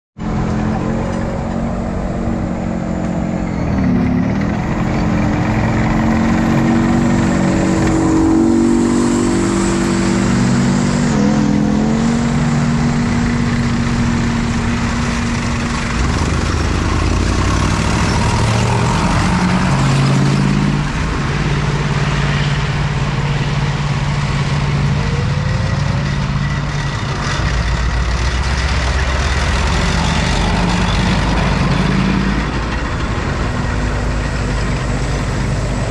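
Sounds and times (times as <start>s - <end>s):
tracked vehicle diesel engines: 0.2s - 35.9s.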